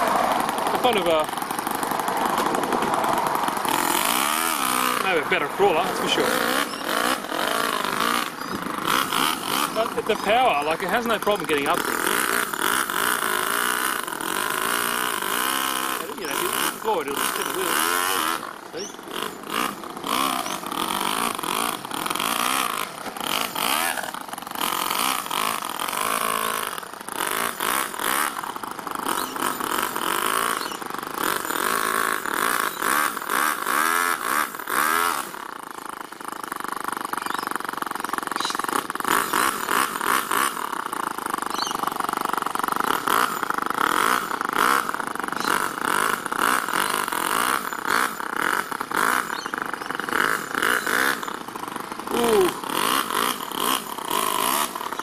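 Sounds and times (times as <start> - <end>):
model engine running: 0.0 - 55.0.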